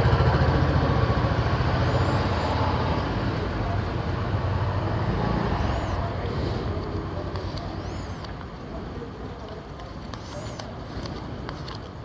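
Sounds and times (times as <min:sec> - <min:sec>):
roadside traffic rumble: 0:00.0 - 0:12.0.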